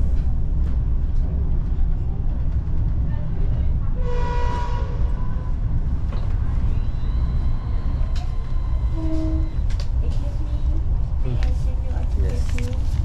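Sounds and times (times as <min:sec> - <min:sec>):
train running low rumble: 0:00.0 - 0:13.0.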